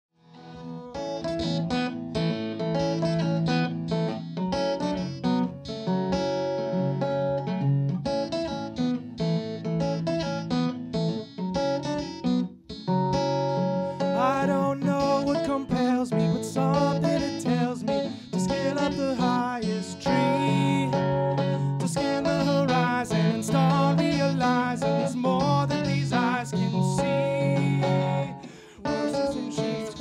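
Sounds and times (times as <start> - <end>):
acoustic guitar strumming chords: 0.4 - 30.0.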